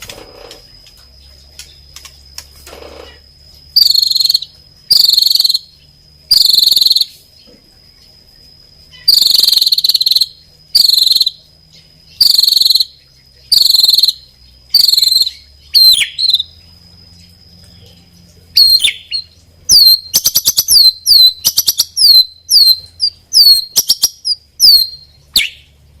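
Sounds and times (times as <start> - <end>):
songbird buzzy phrases: 3.7 - 26.0.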